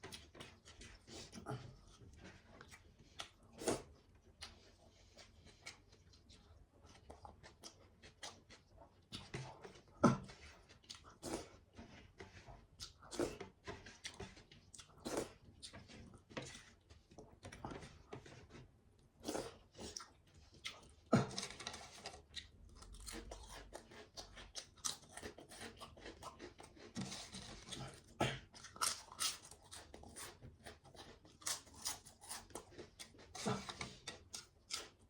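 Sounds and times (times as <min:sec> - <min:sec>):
close-miked chewing: 0:00.0 - 0:35.0.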